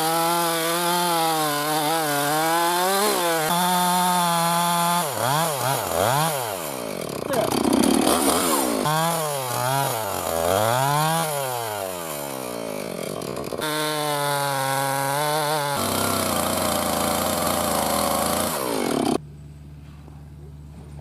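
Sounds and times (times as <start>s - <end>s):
chainsaw cutting log: 0.0s - 19.2s.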